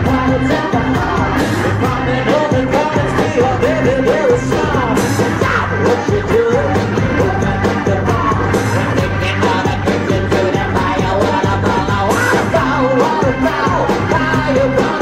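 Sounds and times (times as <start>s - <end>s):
man and woman singing and shouting: 0.0s - 15.0s
steady drum beat: 0.0s - 15.0s.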